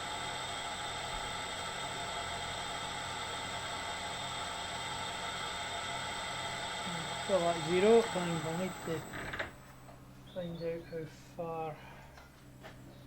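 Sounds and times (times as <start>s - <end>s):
background whir and hiss: 0.0s - 13.0s
constant low hum: 0.0s - 13.0s.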